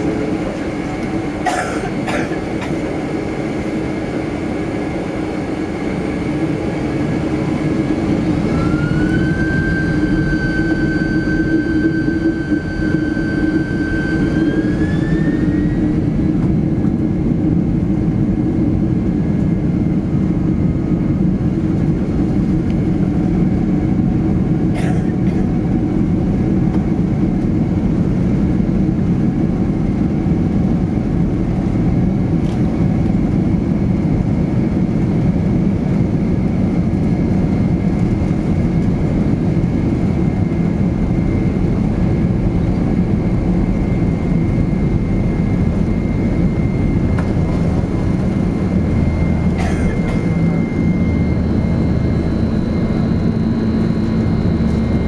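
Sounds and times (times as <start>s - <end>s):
jet engine rumble: 0.0s - 55.0s
jet engine whine: 0.0s - 55.0s.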